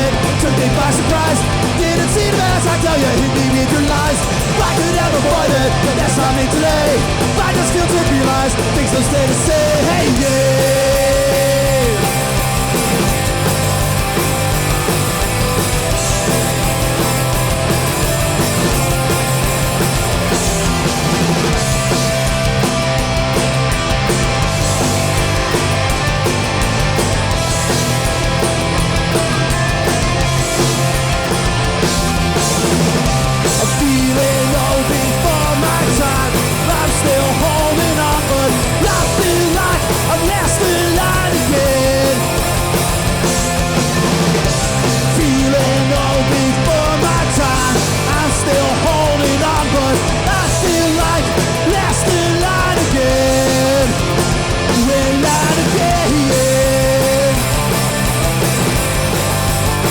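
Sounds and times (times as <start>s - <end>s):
bending melodic guitar line: 0.0s - 59.9s
punk band playing live: 0.0s - 59.9s.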